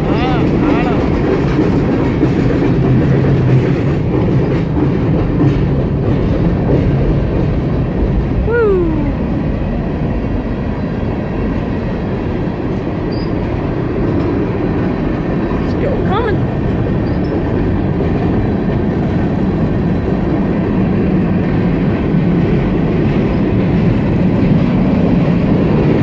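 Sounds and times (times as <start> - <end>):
steel wheels on rails: 0.0 - 26.0.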